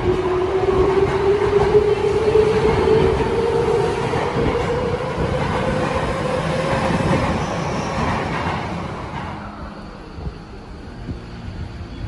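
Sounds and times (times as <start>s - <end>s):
train wheels clattering on rails: 0.0s - 11.2s.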